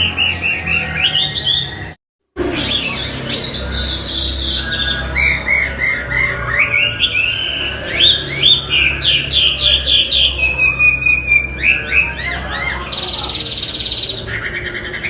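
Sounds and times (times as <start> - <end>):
bird singing whistled notes: 0.0 - 14.3.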